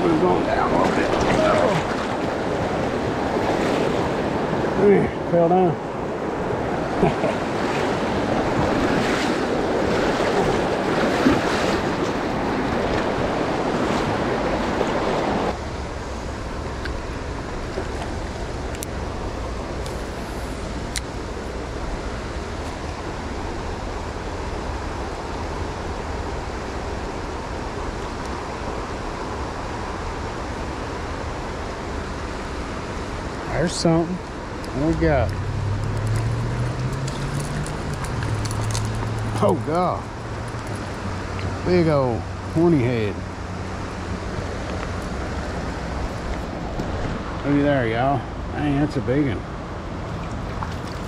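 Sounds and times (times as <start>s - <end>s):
river rushing through rapids: 0.0s - 48.7s.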